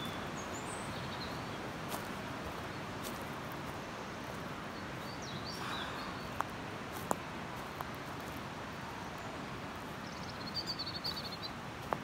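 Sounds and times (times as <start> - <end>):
outdoor ambience hiss: 0.0 - 12.0.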